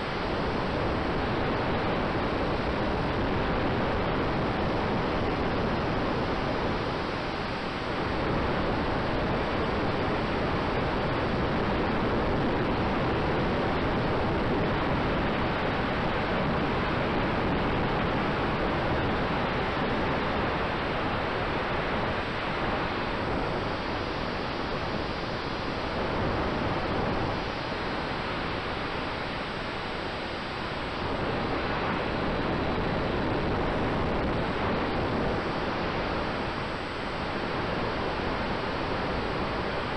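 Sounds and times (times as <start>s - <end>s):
faint steady tone: 0.0s - 39.9s.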